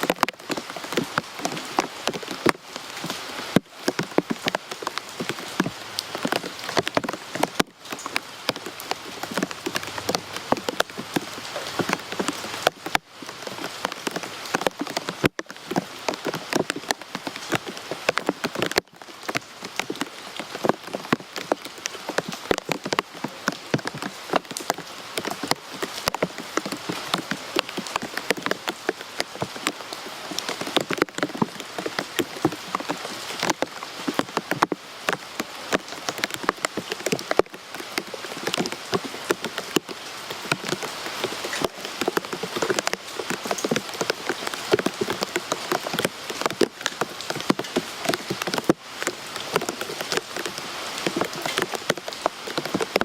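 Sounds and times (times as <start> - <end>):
raindrops pattering on a surface: 0.0 - 53.0.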